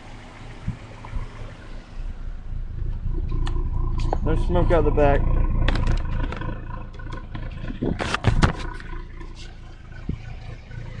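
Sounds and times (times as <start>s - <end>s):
car engine idling with knock: 0.0s - 11.0s.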